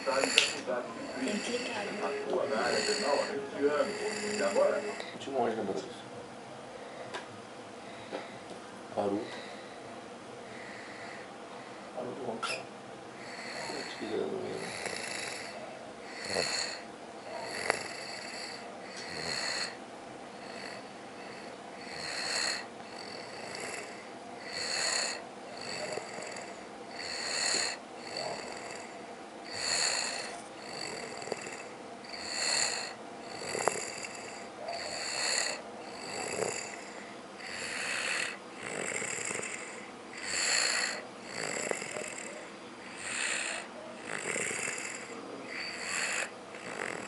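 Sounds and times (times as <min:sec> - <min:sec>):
person snoring: 0:00.0 - 0:05.2, 0:13.2 - 0:16.8, 0:17.4 - 0:19.8, 0:20.4 - 0:47.0.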